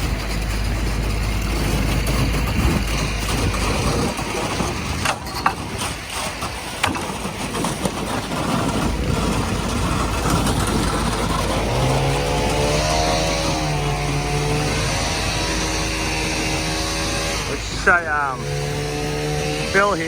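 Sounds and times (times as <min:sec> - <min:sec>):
heavy engine idling: 0:00.0 - 0:20.0.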